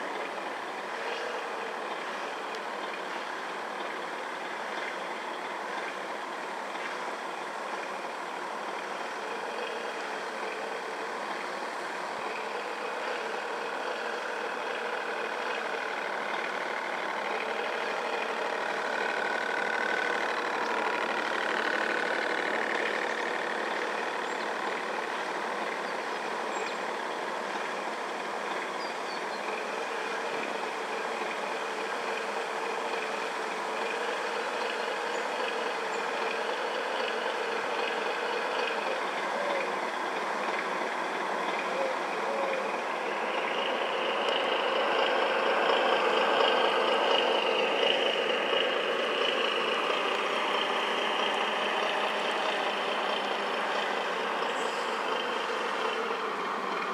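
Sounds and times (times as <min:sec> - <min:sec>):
higher motor whine: 0:00.0 - 0:56.9
model boat motors whining: 0:00.0 - 0:56.9.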